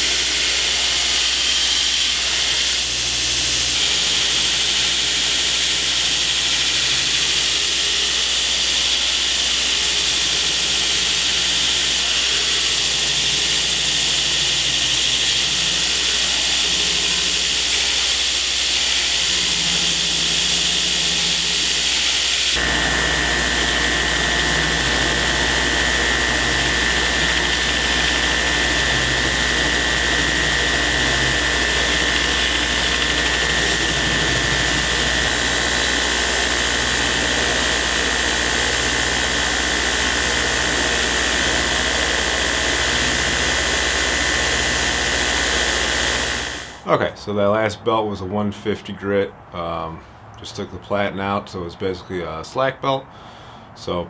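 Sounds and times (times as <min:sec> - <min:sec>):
motor hum: 0:00.0 - 0:46.8
belt grinder grinding steel: 0:00.0 - 0:46.9.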